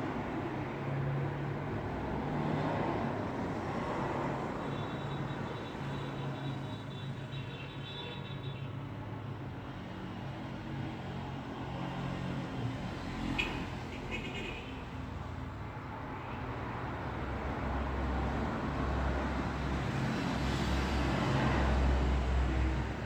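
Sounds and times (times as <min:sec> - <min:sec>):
vehicles driving past: 0:00.0 - 0:07.4, 0:09.0 - 0:23.0.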